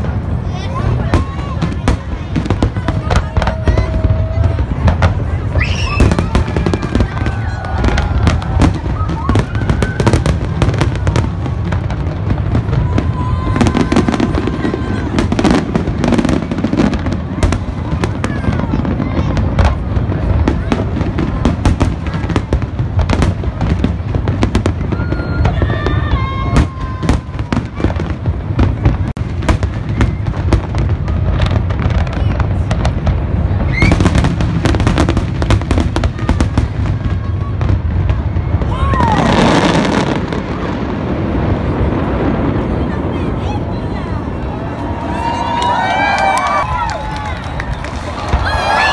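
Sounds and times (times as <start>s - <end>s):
fireworks cracks and bangs: 0.0s - 48.9s.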